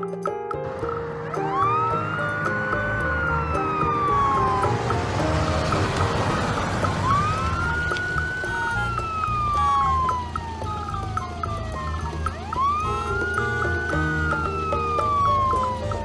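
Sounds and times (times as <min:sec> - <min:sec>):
light background music: 0:00.0 - 0:16.0
wailing siren: 0:00.7 - 0:16.0.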